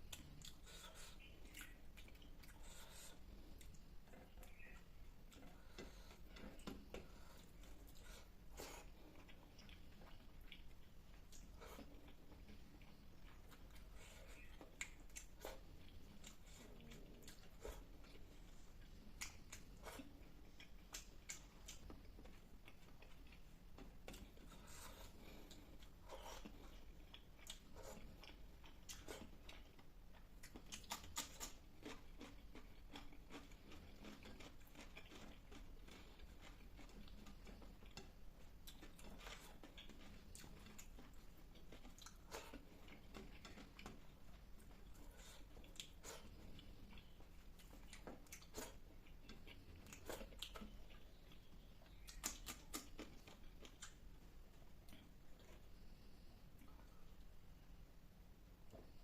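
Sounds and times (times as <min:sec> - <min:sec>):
person chewing: 0:00.0 - 0:57.4.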